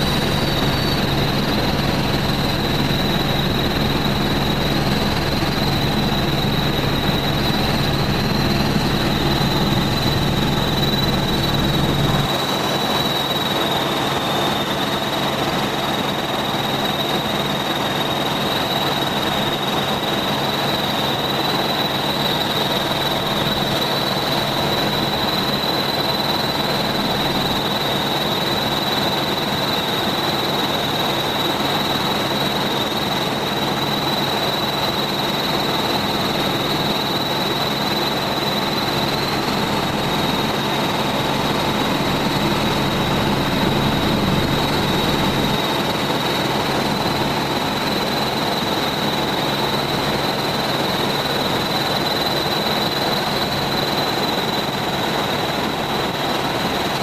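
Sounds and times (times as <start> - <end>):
helicopter engine and rotor: 0.0 - 57.0
high-pitched whine: 0.0 - 57.0.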